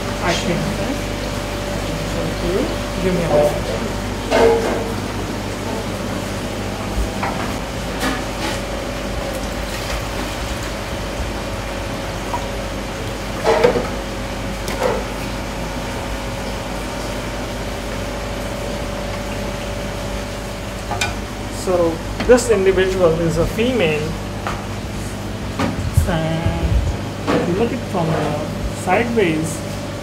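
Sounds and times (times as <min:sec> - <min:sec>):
room hum: 0:00.0 - 0:30.0.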